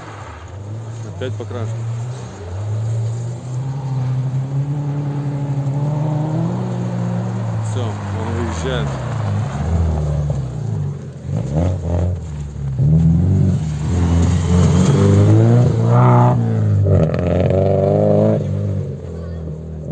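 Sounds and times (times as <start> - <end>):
rally car engine revving: 0.0 - 19.9.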